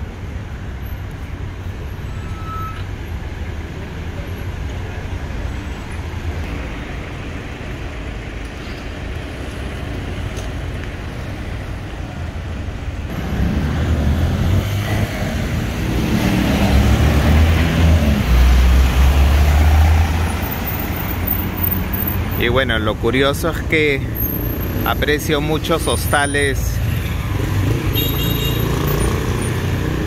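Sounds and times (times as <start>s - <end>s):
cars passing: 0.0s - 30.0s
vehicle engine rumble: 0.0s - 30.0s.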